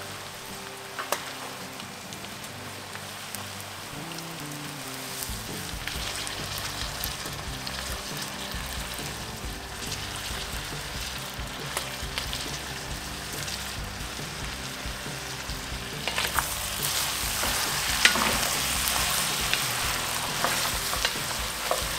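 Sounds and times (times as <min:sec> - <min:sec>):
meat and onions sizzling in a pot: 0:00.0 - 0:21.9
sharp pops and crackles: 0:00.0 - 0:21.9.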